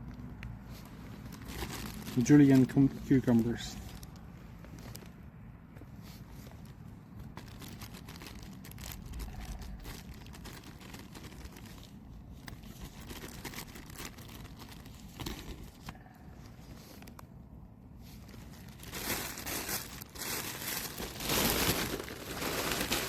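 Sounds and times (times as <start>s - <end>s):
plastic packaging crinkling: 0.8s - 5.2s, 6.1s - 17.2s, 18.1s - 23.0s.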